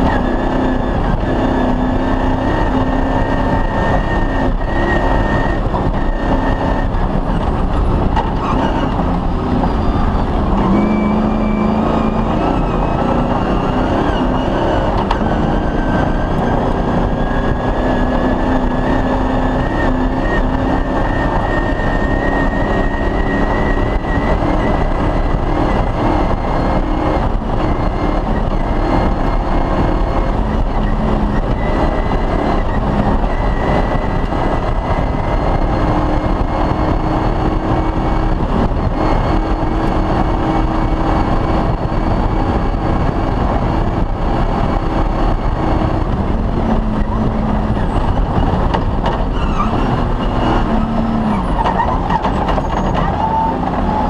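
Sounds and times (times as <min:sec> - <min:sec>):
rally car engine running hard: 0:00.0 - 0:54.0.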